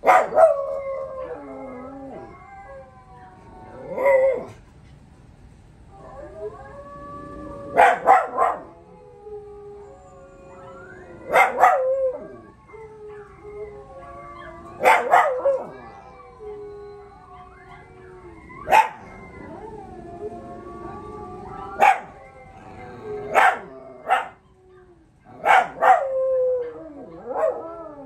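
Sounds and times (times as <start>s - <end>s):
dogs howling: 0.0s - 4.6s, 5.9s - 28.0s.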